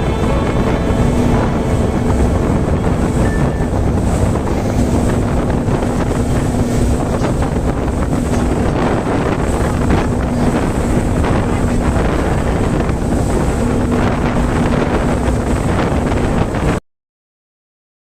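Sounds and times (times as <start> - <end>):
engine hum: 0.0 - 16.7
rushing water: 0.0 - 16.8
wind buffeting microphone: 0.0 - 16.8.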